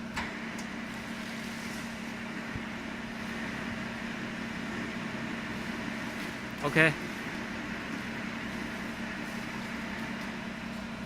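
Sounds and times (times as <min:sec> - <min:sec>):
electric drive machine hum: 0:00.0 - 0:11.0.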